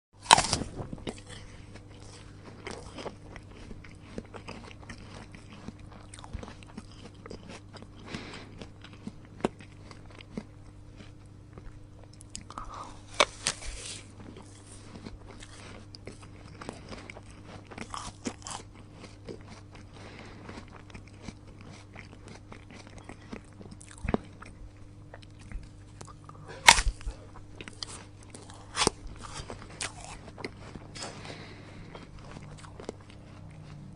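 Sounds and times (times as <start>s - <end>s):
apple crunching: 0.2s - 33.9s
low steady hum: 0.2s - 33.9s
wet chewing crackles: 0.2s - 33.9s.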